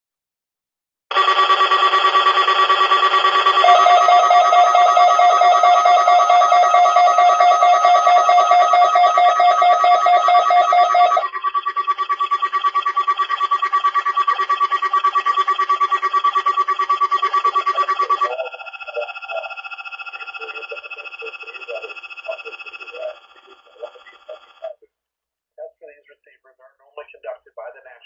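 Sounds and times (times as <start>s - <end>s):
rapidly pulsing electronic tones: 1.1s - 24.8s.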